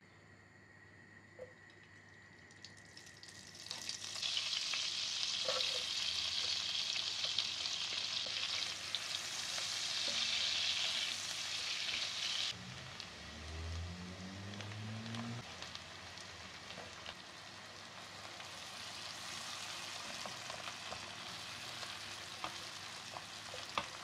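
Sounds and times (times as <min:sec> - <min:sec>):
food sizzling in hot oil: 0:02.7 - 0:24.0.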